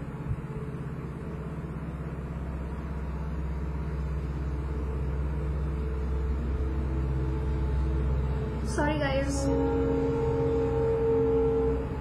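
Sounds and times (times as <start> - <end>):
low rumble with a hum: 0.0 - 12.0.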